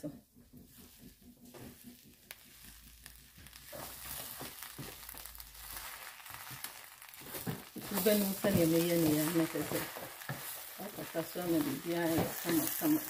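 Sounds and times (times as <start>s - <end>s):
soft sizzle: 0.0s - 13.0s
spatula scraping rice in pan: 1.6s - 13.0s.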